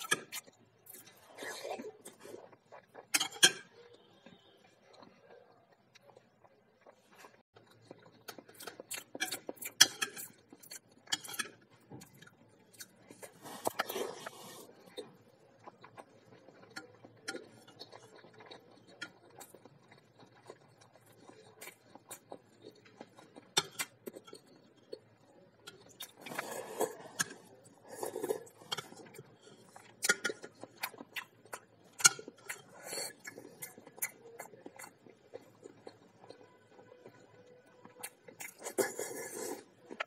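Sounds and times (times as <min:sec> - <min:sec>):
person chewing and swallowing: 0:05.0 - 0:37.2, 0:37.8 - 0:40.0.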